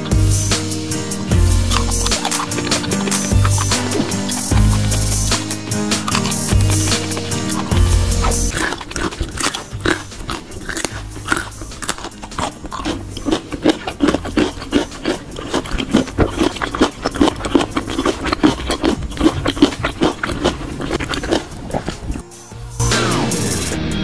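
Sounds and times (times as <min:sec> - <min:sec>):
chewing crunchy vegetables: 0:00.0 - 0:22.9.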